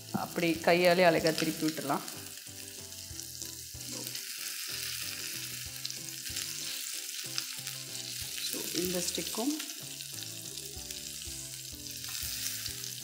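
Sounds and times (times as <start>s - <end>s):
background music: 0.0s - 13.0s
fish sizzling on hot pan: 0.0s - 13.0s.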